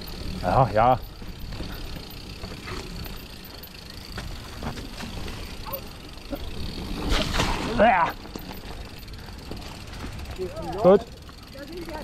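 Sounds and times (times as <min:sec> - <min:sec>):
bike knocks and rattles: 0:00.0 - 0:12.0
bike tyre rumble: 0:00.0 - 0:12.0.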